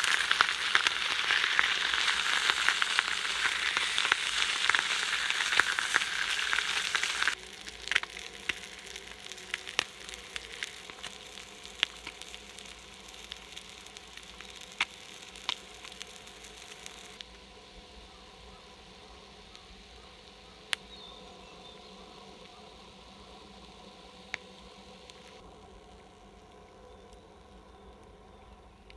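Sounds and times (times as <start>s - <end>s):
fish sizzling on a griddle: 0.0s - 26.5s
hiss with pops and crackles: 0.0s - 28.9s.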